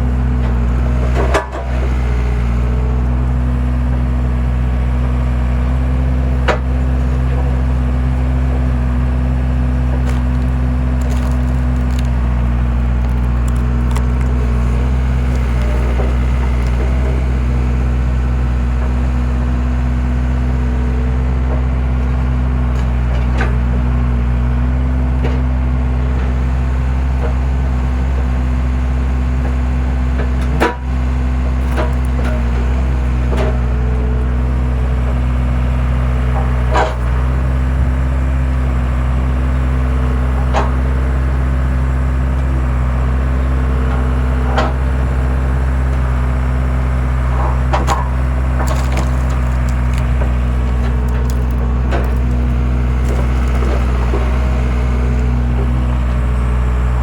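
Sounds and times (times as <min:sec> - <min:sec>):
skid steer engine running: 0:00.0 - 0:57.0
wood cracking and splitting: 0:05.0 - 0:25.2, 0:26.2 - 0:57.0.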